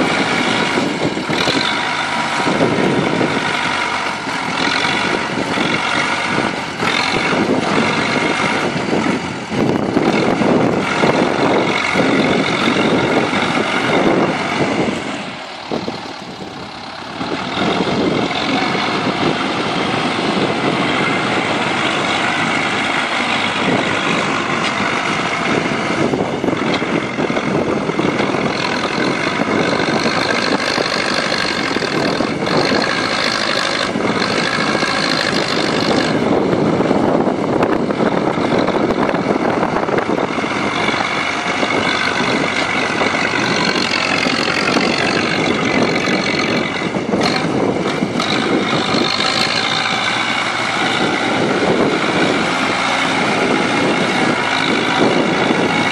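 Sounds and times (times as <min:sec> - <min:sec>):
tractor diesel engine running hard: 0:00.0 - 0:55.9.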